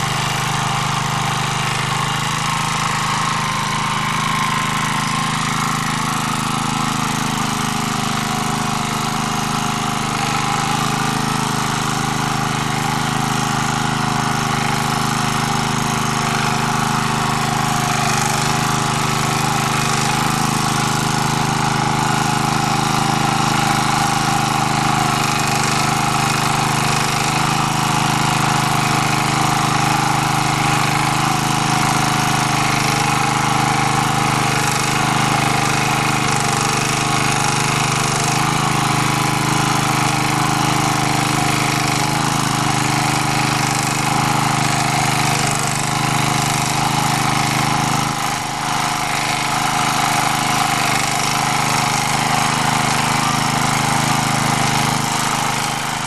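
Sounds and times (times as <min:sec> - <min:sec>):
rotary tiller cutting soil: 0:00.0 - 0:56.0
small tractor engine under load: 0:00.0 - 0:56.0.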